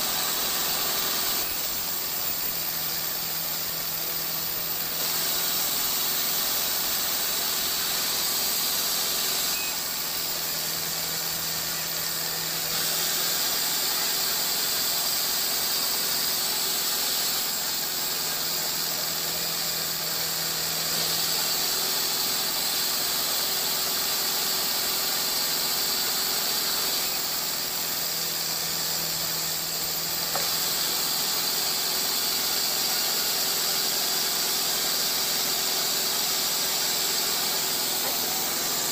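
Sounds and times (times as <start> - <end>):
saw whining through log: 0.0 - 38.9.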